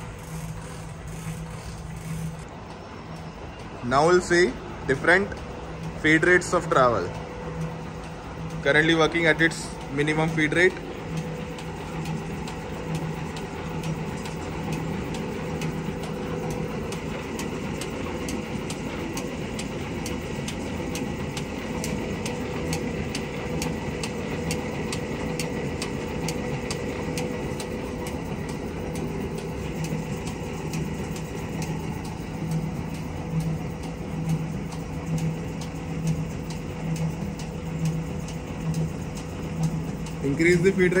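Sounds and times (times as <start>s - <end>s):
machine motor and gearbox hum: 0.0s - 41.0s
regular machine ticks: 0.0s - 41.0s.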